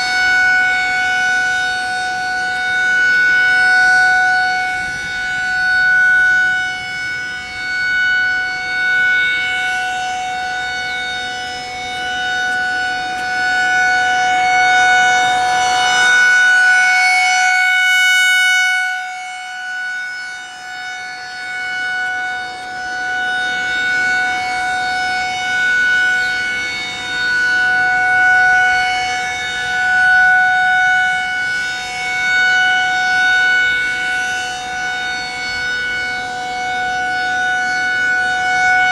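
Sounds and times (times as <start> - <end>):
rotating warning siren steady tone: 0.0 - 38.9.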